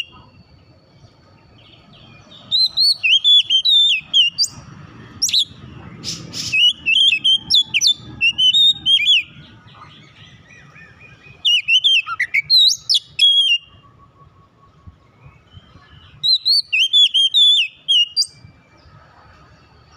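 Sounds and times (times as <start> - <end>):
bird singing whistled notes: 0.0 - 19.9.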